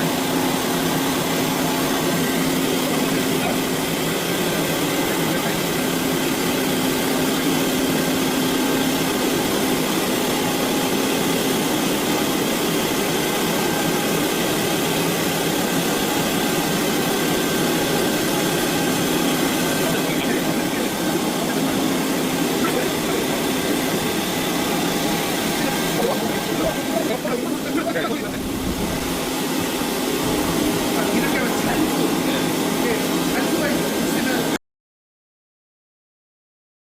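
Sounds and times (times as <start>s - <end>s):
cleaning machine whirring hum: 0.0s - 34.6s.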